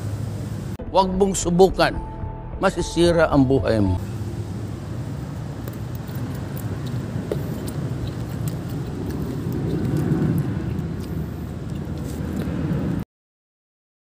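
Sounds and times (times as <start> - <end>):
low outdoor rumble: 0.0 - 1.7, 2.7 - 13.0.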